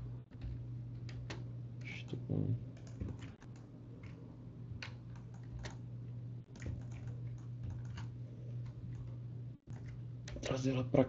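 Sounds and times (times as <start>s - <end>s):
low electrical hum: 0.0s - 11.0s
keyboard and mouse clicks: 0.3s - 5.8s, 6.5s - 10.4s.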